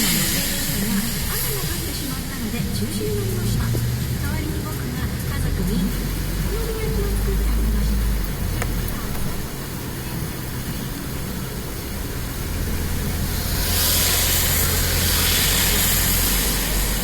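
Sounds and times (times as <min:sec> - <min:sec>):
tyres hissing through water: 0:00.0 - 0:17.0
vehicle engine rumbling: 0:00.0 - 0:17.0.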